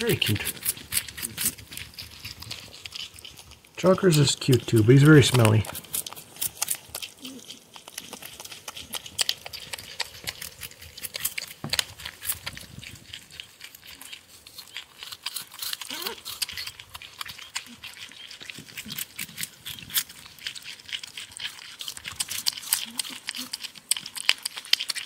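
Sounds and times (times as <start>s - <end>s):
porcupine chewing clicks: 0.0s - 25.0s.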